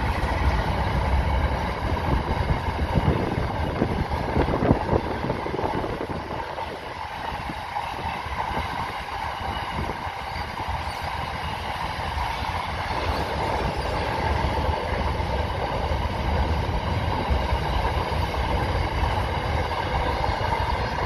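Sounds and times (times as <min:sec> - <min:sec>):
train wheels rumbling on bridge: 0:00.0 - 0:21.0.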